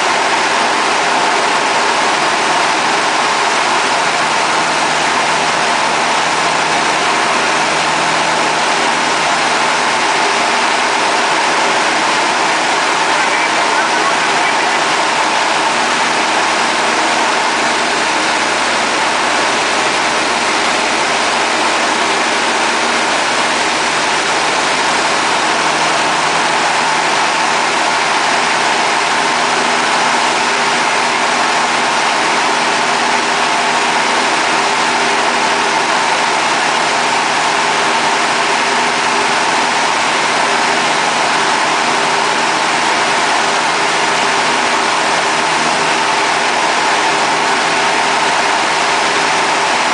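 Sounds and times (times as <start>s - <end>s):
aircraft engine and propeller droning: 0.0s - 49.9s.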